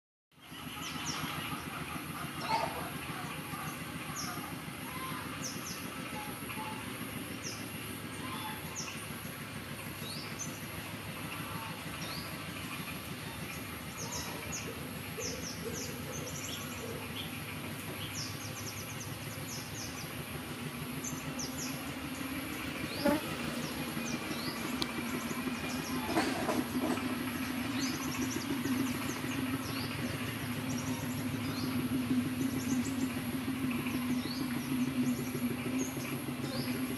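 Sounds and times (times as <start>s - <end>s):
low mechanical hum: 0.4s - 36.9s
small birds chirping: 2.4s - 36.9s.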